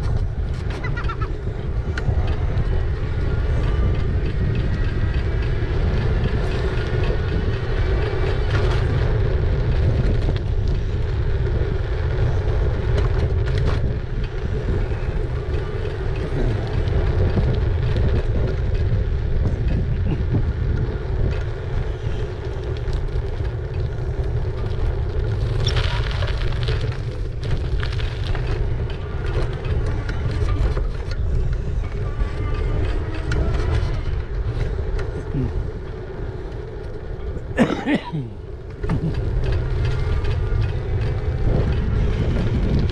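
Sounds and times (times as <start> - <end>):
wind and road noise: 0.0 - 42.9.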